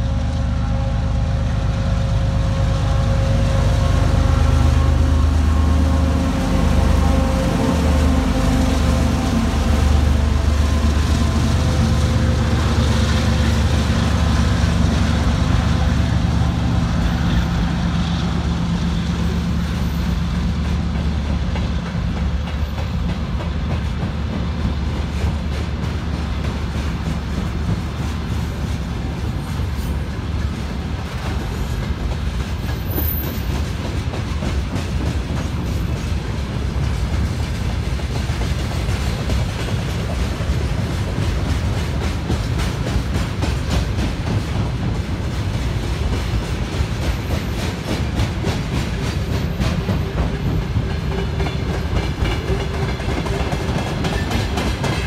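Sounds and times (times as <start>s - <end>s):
diesel locomotive engine drone: 0.0s - 55.0s
train wheels clickety-clack: 0.0s - 55.0s.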